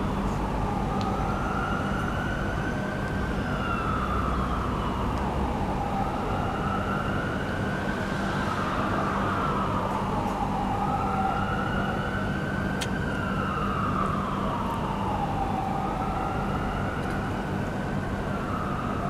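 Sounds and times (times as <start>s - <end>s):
ambulance siren wailing: 0.0s - 19.0s.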